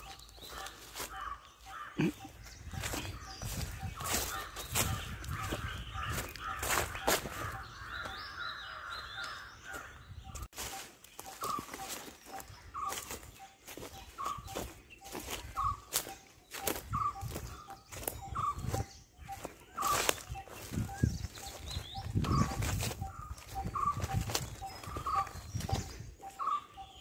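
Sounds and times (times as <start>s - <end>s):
footsteps on dry leaves: 0.0s - 27.0s.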